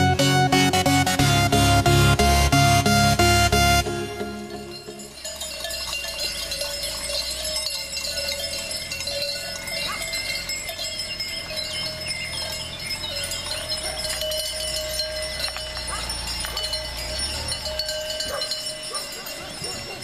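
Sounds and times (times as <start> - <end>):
neck bells jingling: 0.0 - 20.0.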